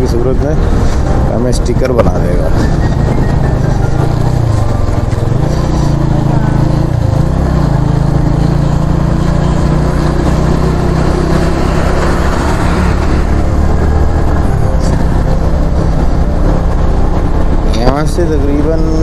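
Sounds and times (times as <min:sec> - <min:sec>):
motorcycle engine cruising: 0:00.0 - 0:19.0
road and wind noise: 0:00.0 - 0:19.0.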